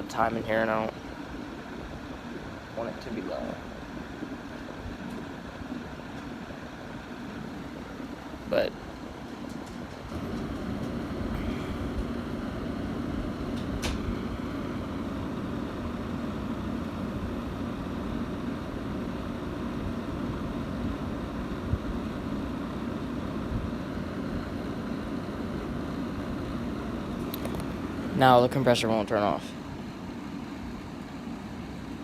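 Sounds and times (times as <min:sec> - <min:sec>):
window air conditioner running: 0:00.0 - 0:32.0.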